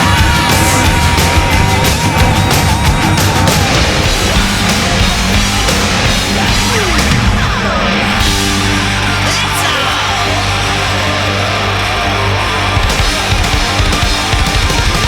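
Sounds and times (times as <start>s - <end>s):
heavy rock music with electric guitar: 0.0s - 15.0s.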